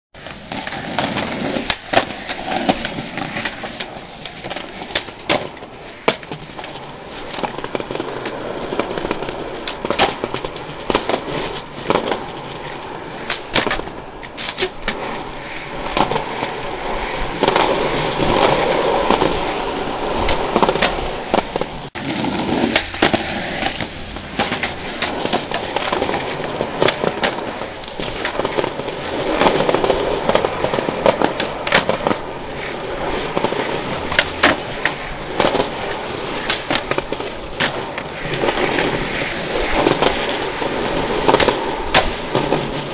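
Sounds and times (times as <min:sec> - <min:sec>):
skateboard wheels rolling on concrete: 0:00.1 - 0:42.9
skateboard clacks: 0:00.2 - 0:42.9.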